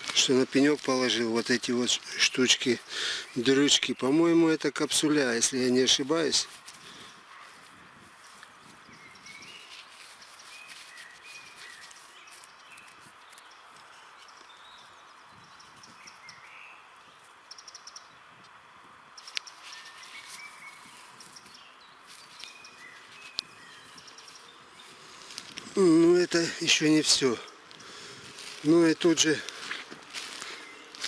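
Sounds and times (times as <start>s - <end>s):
background hiss: 0.0s - 31.0s
birds chirping: 0.0s - 31.0s.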